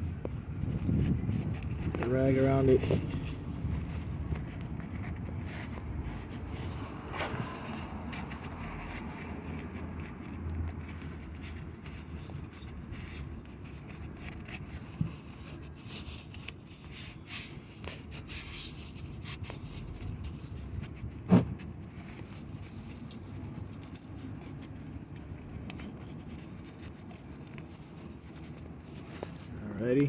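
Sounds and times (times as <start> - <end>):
cloth rag rubbing and wiping: 0.9 - 29.7.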